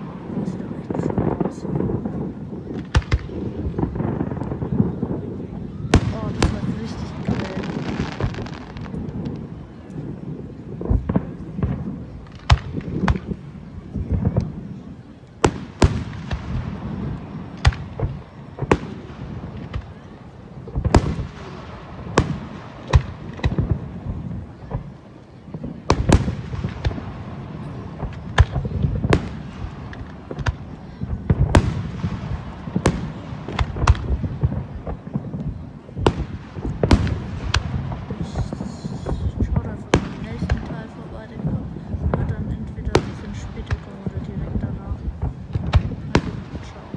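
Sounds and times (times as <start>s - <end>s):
fireworks bursting bangs: 0.0s - 46.9s.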